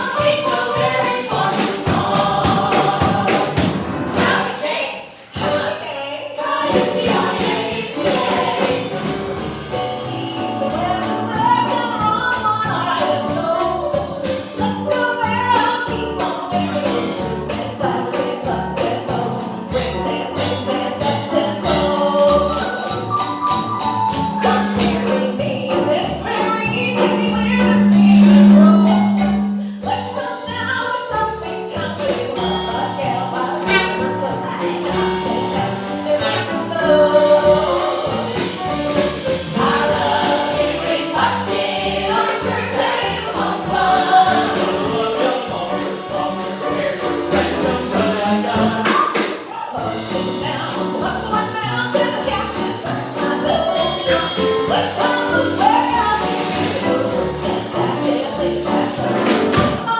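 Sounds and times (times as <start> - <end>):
several singers singing live: 0.0 - 13.4, 15.9 - 38.7, 39.3 - 59.9
musical accompaniment: 6.6 - 59.9
light percussion: 6.7 - 59.9.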